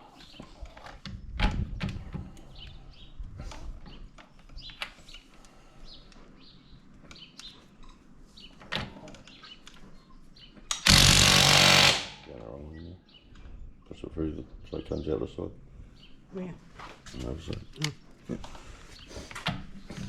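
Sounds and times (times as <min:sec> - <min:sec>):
birds chirping: 0:00.0 - 0:00.9, 0:02.0 - 0:20.0.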